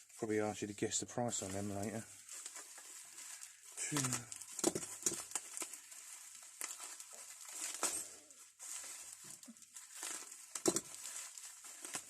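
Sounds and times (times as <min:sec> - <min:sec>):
packaging rustling: 0:01.2 - 0:12.0.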